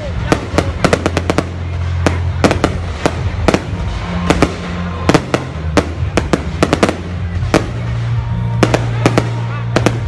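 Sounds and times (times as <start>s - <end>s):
fireworks bangs: 0.0s - 10.0s
music with low bass line: 0.0s - 10.0s.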